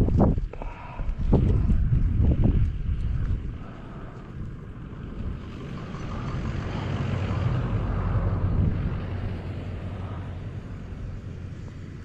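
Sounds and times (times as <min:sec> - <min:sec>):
vehicle passing: 0:01.3 - 0:12.0.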